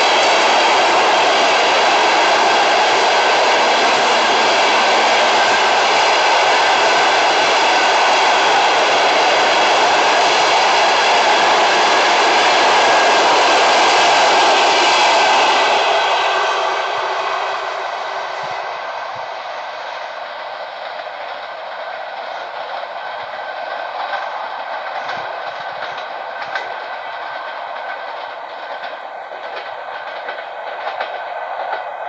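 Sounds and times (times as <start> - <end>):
train wheels hissing on rails: 0.0 - 32.0.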